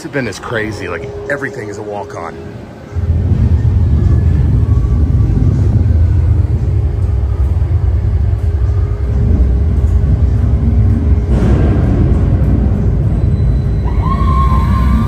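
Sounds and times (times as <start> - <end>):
roller coaster train rumbling: 0.0 - 15.0
wind buffeting microphone: 0.7 - 13.8.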